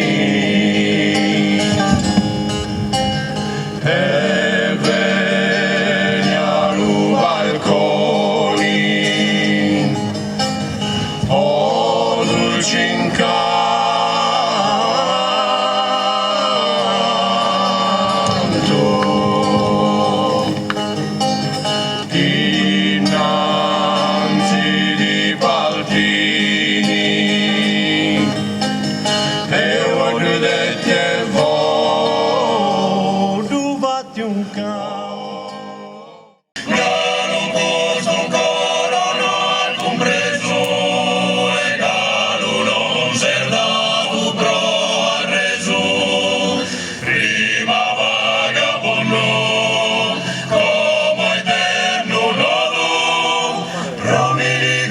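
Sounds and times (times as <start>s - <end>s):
folk music with singing: 0.0s - 54.9s
several voices singing together: 0.0s - 54.9s.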